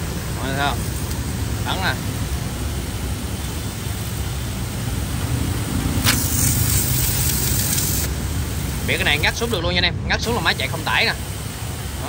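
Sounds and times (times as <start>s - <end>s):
water jet hissing: 0.0s - 12.0s.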